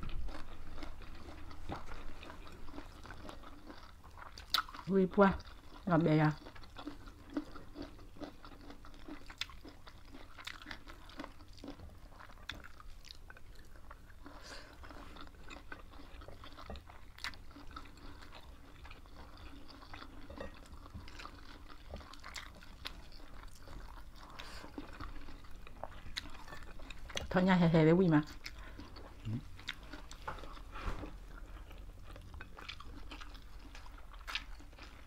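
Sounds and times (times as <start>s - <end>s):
people chewing food: 0.0s - 35.0s.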